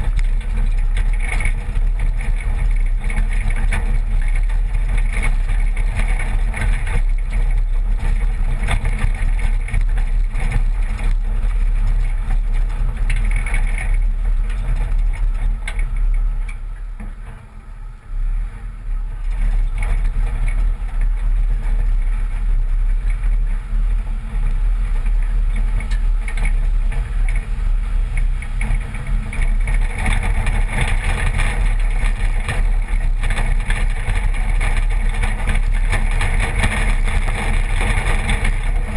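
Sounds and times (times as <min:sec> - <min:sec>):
tyres rumbling on gravel: 0:00.0 - 0:38.9
wind buffeting microphone: 0:00.0 - 0:38.9.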